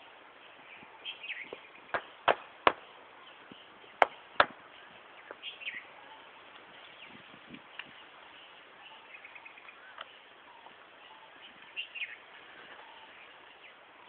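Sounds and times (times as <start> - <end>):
soft outdoor hiss: 0.0 - 14.0
small birds chirping: 0.3 - 14.0.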